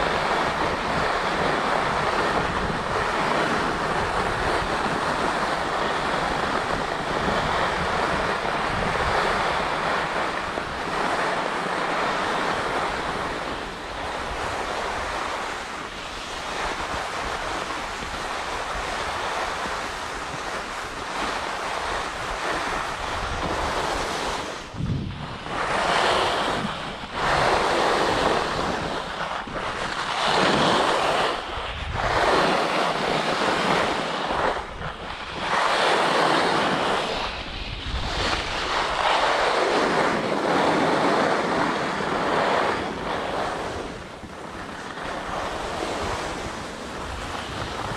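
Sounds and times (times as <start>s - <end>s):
skis scraping on snow: 0.0s - 47.9s
wind rushing over microphone: 0.0s - 47.9s.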